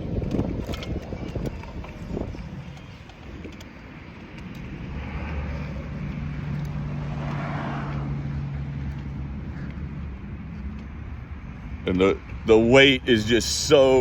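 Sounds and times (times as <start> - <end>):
electric motorcycle hum: 0.0 - 14.0
wind and road noise: 0.0 - 14.0.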